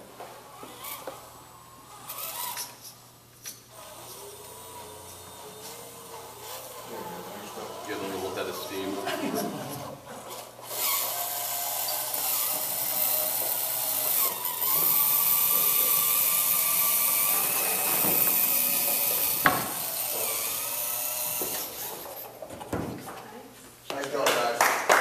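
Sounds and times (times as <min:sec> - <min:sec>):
electric motor whining: 0:00.4 - 0:02.9, 0:03.7 - 0:22.5.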